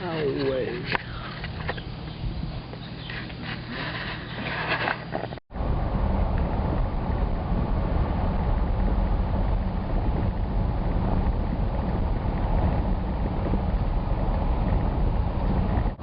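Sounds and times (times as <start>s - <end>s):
road noise: 0.0s - 16.0s
wind noise: 0.8s - 16.0s.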